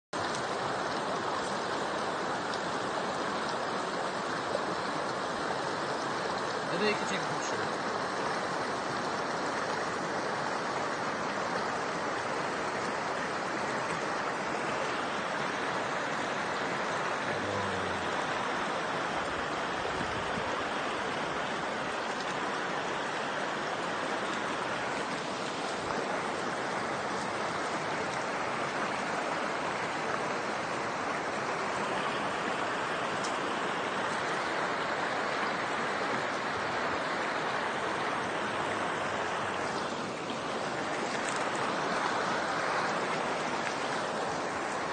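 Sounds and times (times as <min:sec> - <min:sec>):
stream water rushing: 0:00.1 - 0:44.9.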